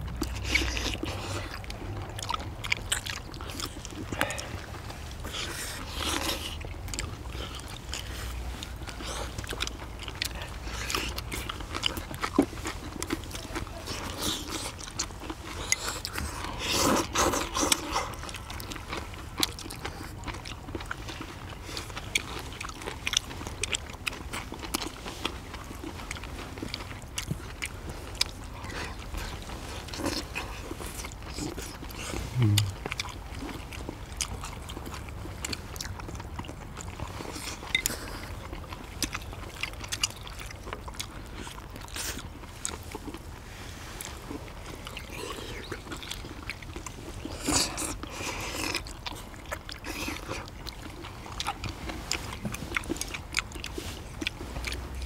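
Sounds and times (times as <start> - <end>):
people chewing and crunching: 0.0 - 55.0.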